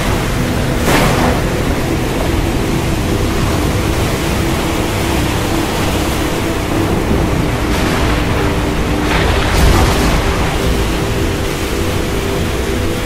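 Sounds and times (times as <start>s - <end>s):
faint steady hum: 0.0s - 13.0s
rough ocean waves: 0.0s - 13.0s
wind: 0.0s - 13.0s.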